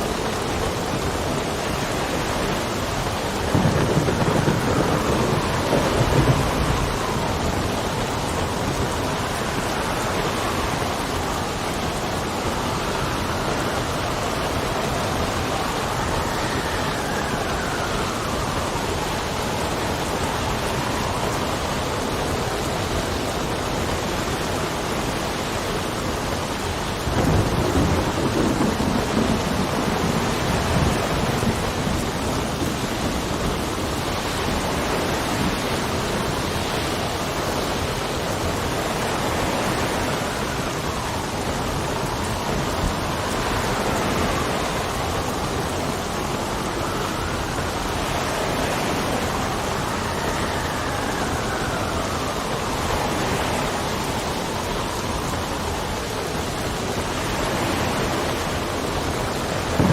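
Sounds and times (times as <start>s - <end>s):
faint wind whistle: 0.0s - 59.9s
steady rain hiss: 0.0s - 59.9s.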